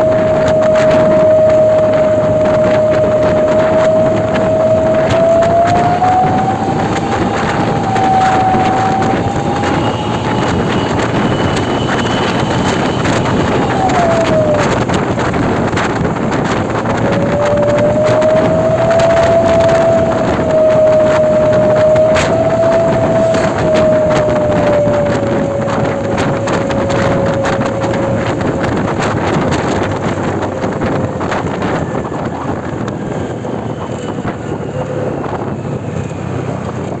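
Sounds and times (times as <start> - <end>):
thin whine: 0.0 - 32.6
bus traffic passing: 0.0 - 37.0
wind on microphone: 0.0 - 37.0.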